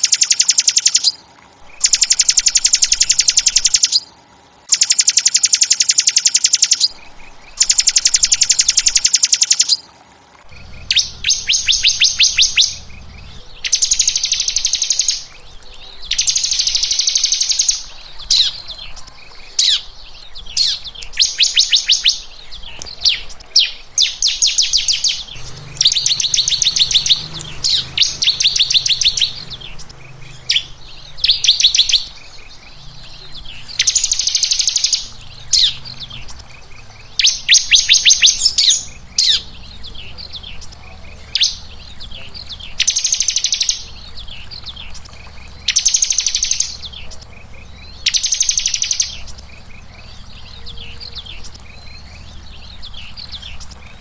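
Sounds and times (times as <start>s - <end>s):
songbird fast trills: 0.0s - 54.0s.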